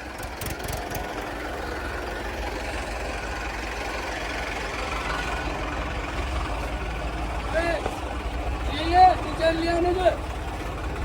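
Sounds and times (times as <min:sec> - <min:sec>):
diesel tractor engine chugging: 0:00.0 - 0:11.0.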